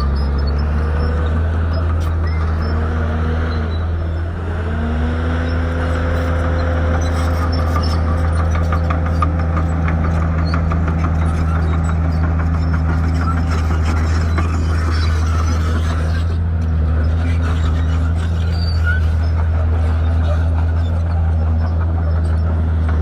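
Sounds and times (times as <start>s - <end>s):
bulldozer diesel engine: 0.0s - 23.0s.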